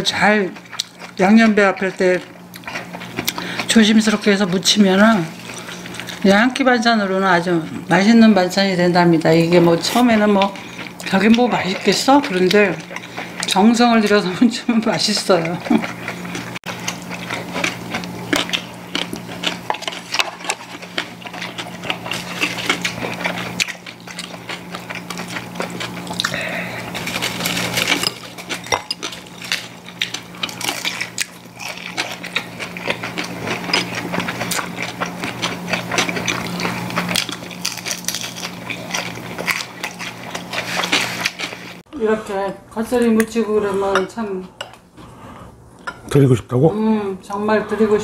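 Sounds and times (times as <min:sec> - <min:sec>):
people chewing: 0:00.0 - 0:08.1, 0:09.0 - 0:41.9
low steady hum: 0:00.0 - 0:48.0.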